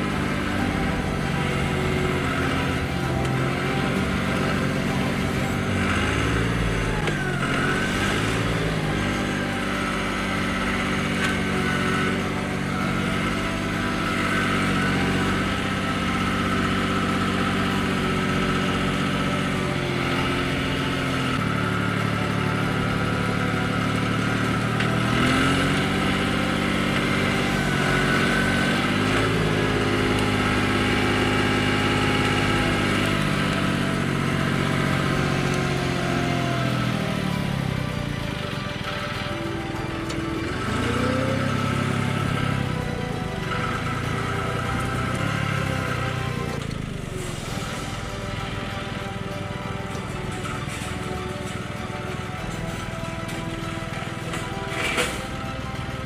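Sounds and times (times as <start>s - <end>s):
machine engine running: 0.0s - 56.0s.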